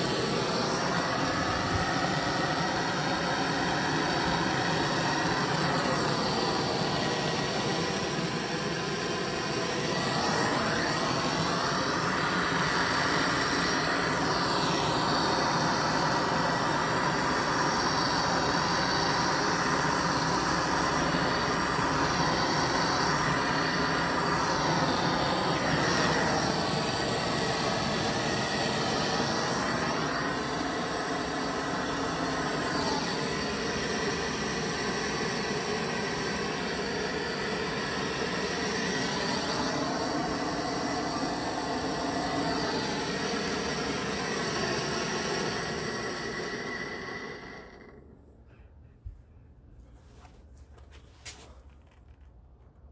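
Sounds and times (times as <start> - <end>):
gas torch hissing: 0.0 - 48.2.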